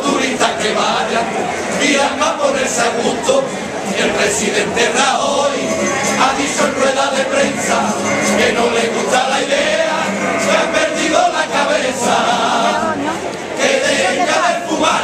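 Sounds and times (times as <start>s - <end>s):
male choir singing: 0.0s - 15.0s.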